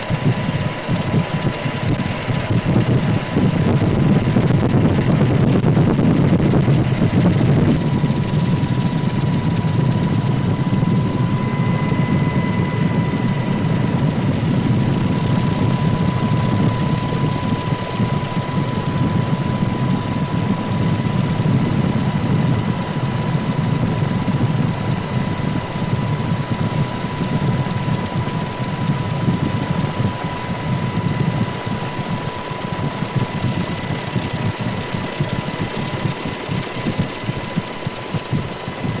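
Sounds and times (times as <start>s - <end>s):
aircraft engine rumble: 0.0s - 39.0s
thin steady whine: 0.0s - 39.0s.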